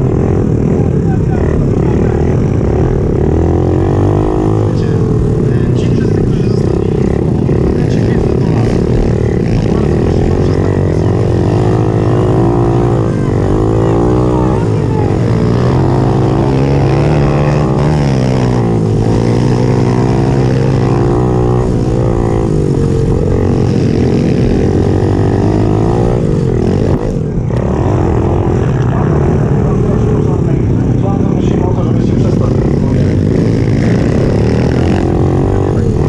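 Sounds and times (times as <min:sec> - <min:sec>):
small motorcycle engine revving: 0:00.0 - 0:36.0.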